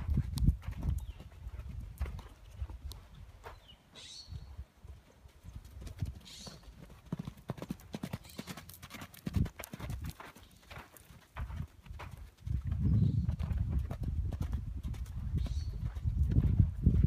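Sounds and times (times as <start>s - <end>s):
horse hoofbeats on sand: 0.0s - 3.8s, 4.9s - 17.0s.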